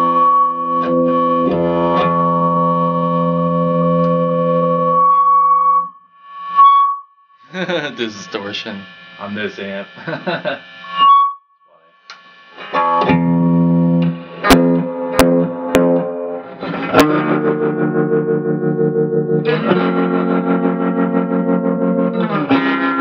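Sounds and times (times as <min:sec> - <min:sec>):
distorted electric guitar chords: 0:00.0 - 0:23.0.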